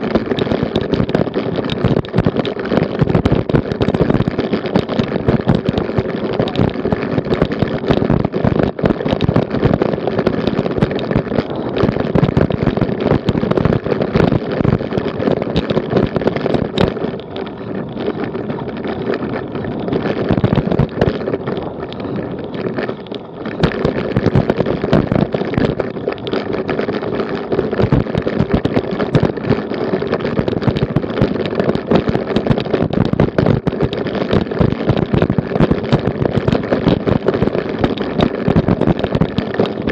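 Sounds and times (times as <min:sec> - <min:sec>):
bicycle rattling over cobblestones: 0:00.0 - 0:39.9.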